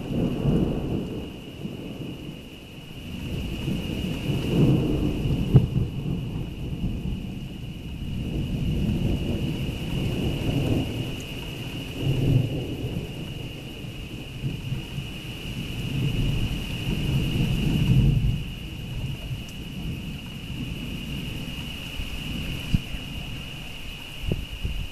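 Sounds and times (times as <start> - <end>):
rolling thunder rumbling: 0.0 - 24.9.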